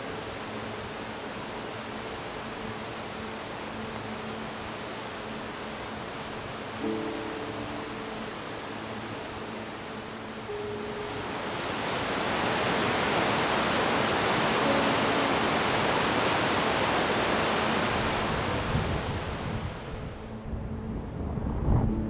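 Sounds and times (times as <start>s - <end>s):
rushing wind or water: 0.0s - 22.0s
soft background music: 0.0s - 22.0s.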